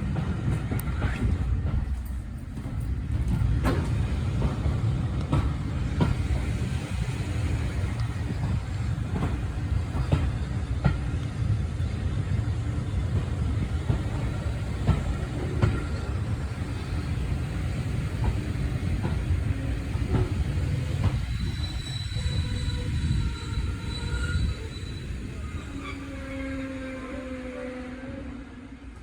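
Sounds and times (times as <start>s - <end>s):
train carriage rumble: 0.0s - 29.0s.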